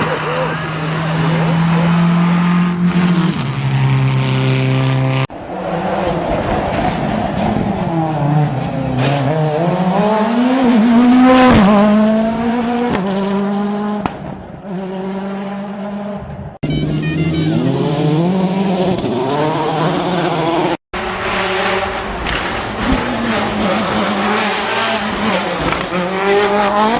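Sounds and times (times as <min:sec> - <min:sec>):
rally car engines revving: 0:00.0 - 0:26.9.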